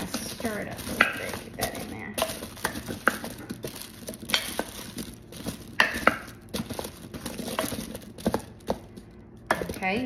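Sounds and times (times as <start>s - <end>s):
utensil scraping and knocking pot: 0.0s - 10.0s.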